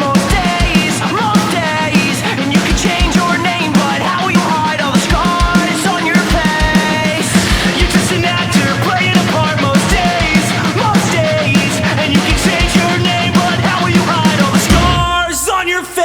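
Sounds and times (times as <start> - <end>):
loud rock band music: 0.0 - 16.0.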